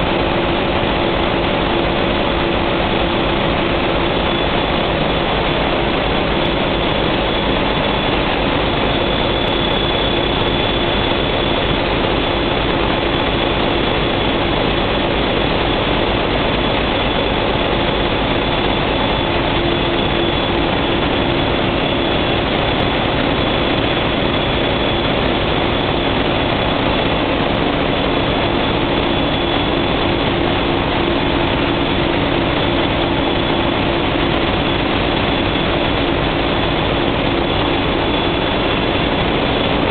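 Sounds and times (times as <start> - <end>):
diesel generator engine roar: 0.0 - 39.9.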